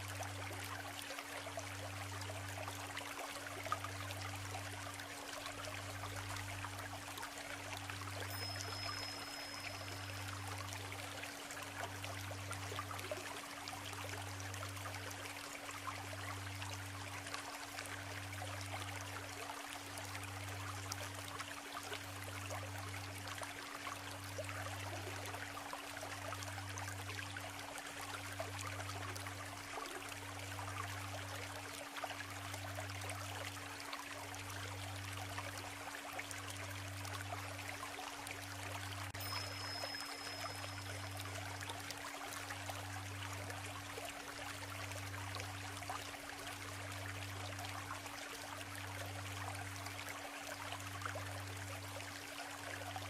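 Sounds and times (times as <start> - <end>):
stream babbling over stones: 0.0 - 53.0.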